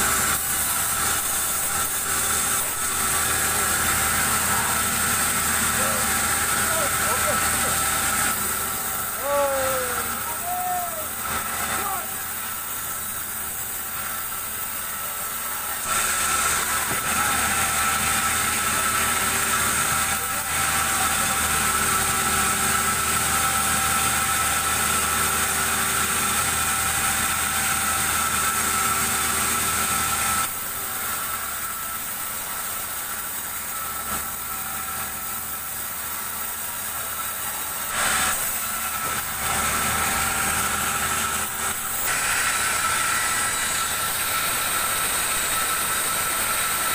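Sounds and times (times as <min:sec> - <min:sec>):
band saw cutting log: 0:00.0 - 0:46.9.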